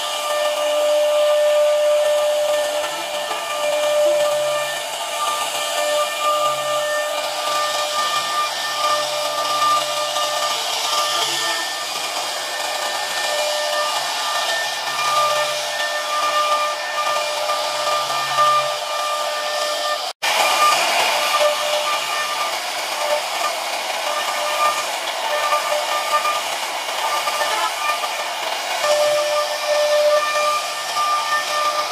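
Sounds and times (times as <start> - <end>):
router bit cutting wood: 0.0 - 31.9
router spindle whining: 0.0 - 31.9.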